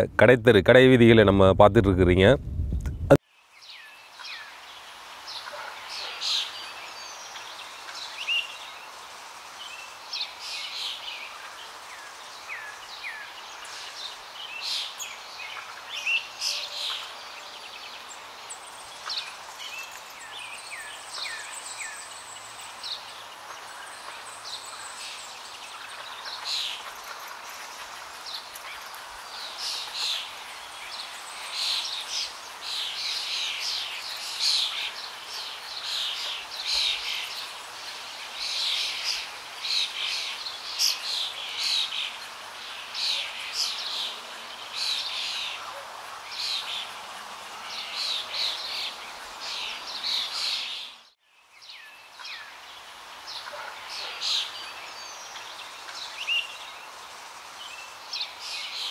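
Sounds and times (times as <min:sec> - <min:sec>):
steady hiss: 0:03.2 - 0:51.1, 0:52.2 - 0:58.9.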